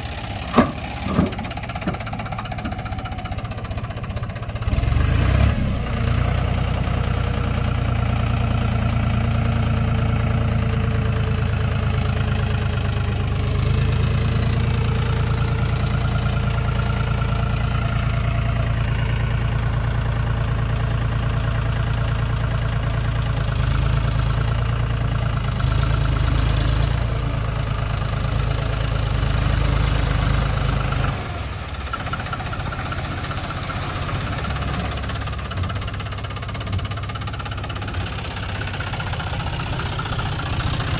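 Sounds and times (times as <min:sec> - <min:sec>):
tractor diesel engine rumbling: 0:00.0 - 0:40.9.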